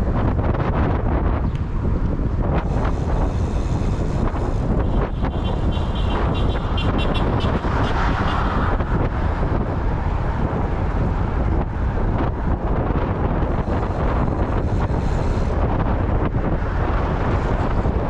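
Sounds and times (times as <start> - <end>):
motorcycle engine and road rumble: 0.0 - 18.0
wind buffeting microphone: 0.0 - 18.0.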